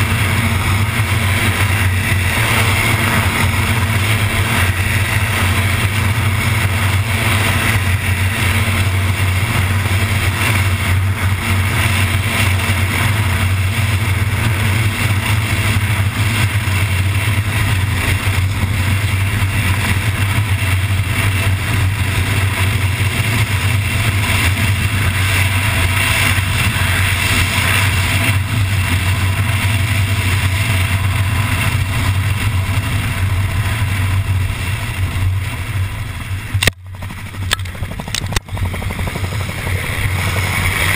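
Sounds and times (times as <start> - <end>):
heavy wind rush: 0.0 - 40.9
propeller engine drone: 0.0 - 40.9.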